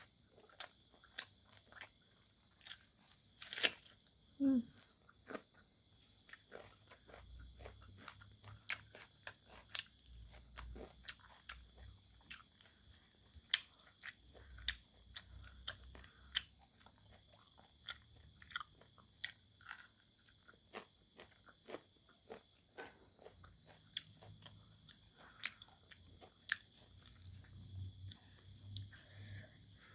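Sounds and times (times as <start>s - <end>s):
chewing and crunching: 0.0s - 29.9s.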